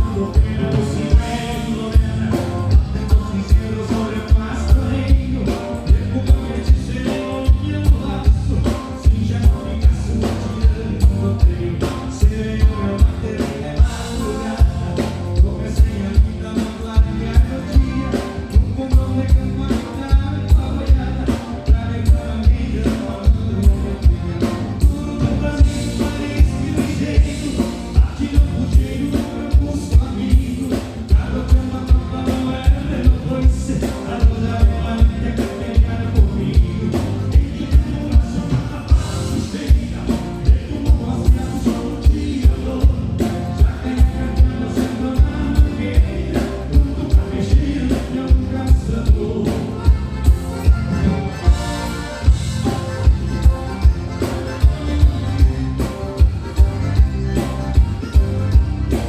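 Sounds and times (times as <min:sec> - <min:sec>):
live band playing dance music: 0:00.0 - 0:59.0
person singing: 0:00.0 - 0:59.0.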